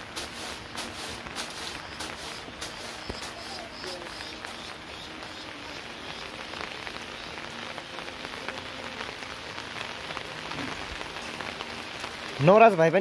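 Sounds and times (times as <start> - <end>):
water drips: 0.0 - 12.8
steady rain hiss: 0.0 - 13.0.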